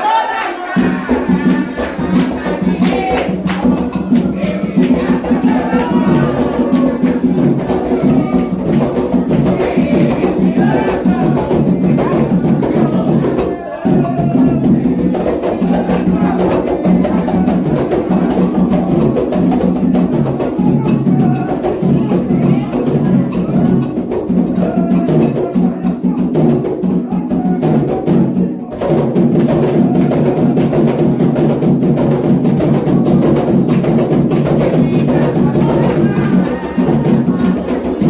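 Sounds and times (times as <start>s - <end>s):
hand drums playing: 0.0s - 38.0s.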